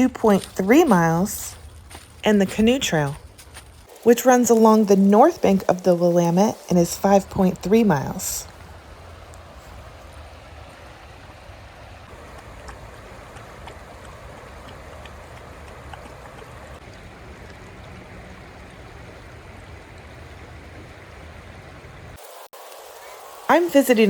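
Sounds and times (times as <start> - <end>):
water rushing: 3.9 - 24.0.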